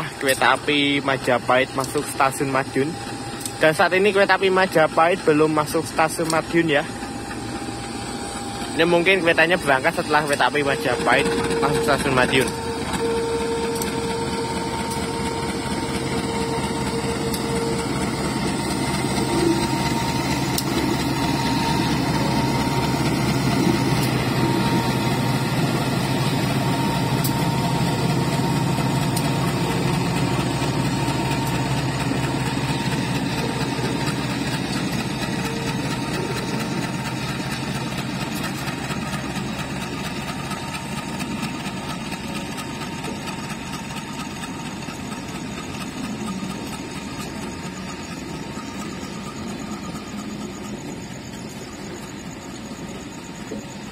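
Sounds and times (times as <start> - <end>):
diesel locomotive engine running: 0.0 - 53.9.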